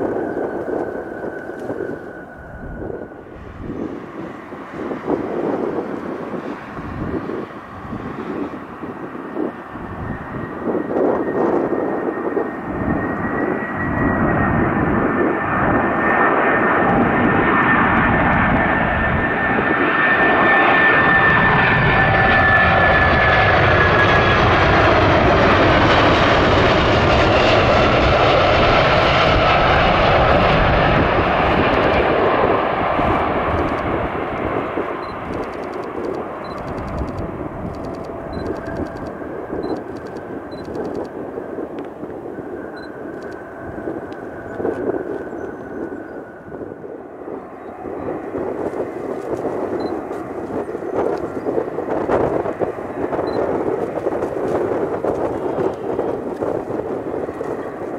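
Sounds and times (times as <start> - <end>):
jet engines passing overhead: 0.0 - 57.9.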